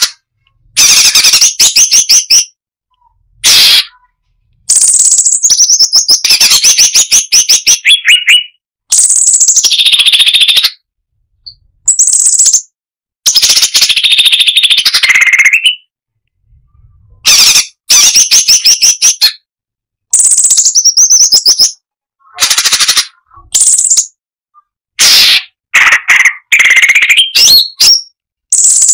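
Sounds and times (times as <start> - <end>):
bird chattering song: 0.8 - 10.8, 11.5 - 12.7, 13.3 - 15.9, 16.8 - 19.4, 20.1 - 28.9.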